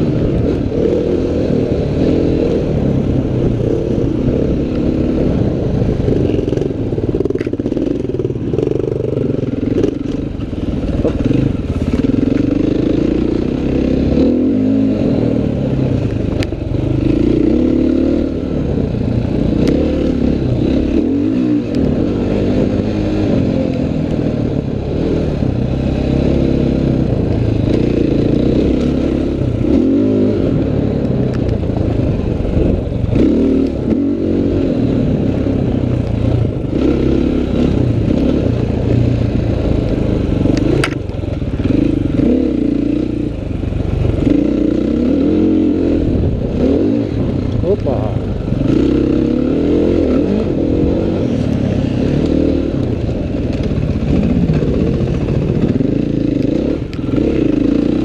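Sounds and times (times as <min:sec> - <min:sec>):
dirt bike engine revving: 0:00.0 - 0:15.9, 0:16.6 - 0:31.1, 0:31.8 - 0:58.0.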